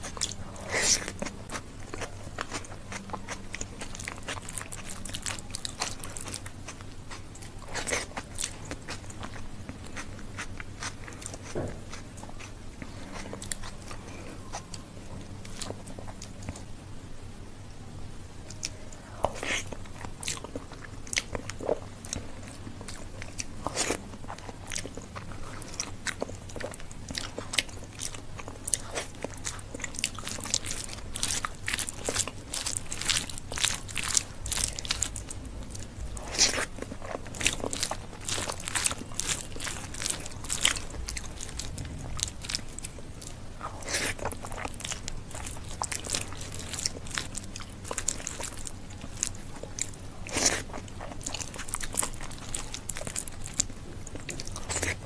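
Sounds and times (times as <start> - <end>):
chewing with wet clicks: 0.0 - 16.7, 18.4 - 55.0.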